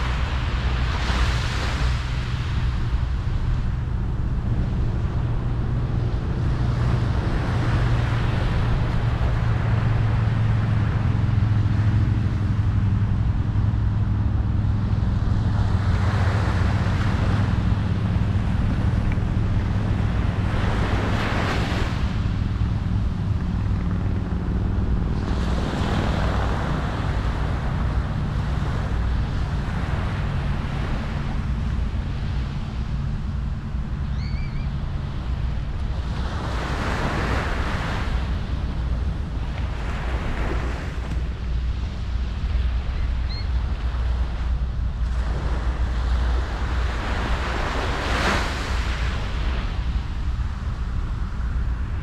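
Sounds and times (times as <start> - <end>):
ocean waves on beach: 0.0 - 52.0.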